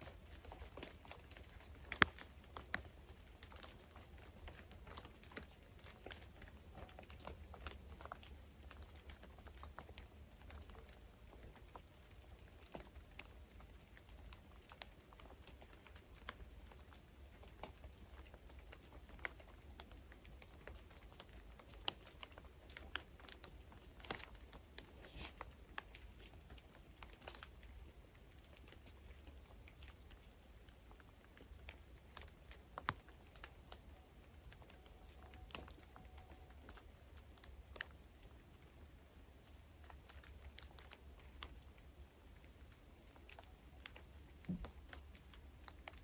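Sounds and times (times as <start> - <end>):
soft irregular clicks: 0.0 - 46.0.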